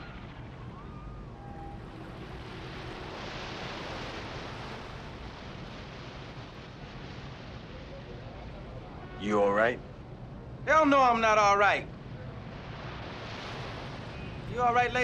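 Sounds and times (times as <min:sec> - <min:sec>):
rushing outdoor ambience: 0:00.0 - 0:15.0.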